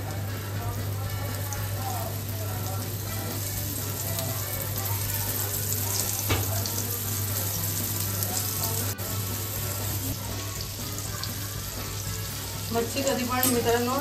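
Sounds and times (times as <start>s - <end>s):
fish sizzling in oil: 0.0s - 14.0s.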